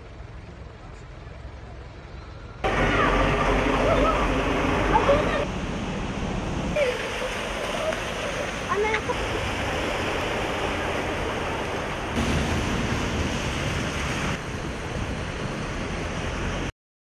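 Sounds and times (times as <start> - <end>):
tyres splashing through water: 2.6 - 16.7.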